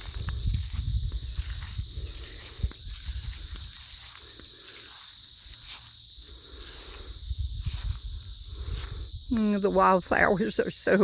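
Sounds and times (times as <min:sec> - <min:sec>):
footsteps through grass: 0:00.0 - 0:10.4
insect chorus drone: 0:00.0 - 0:11.0.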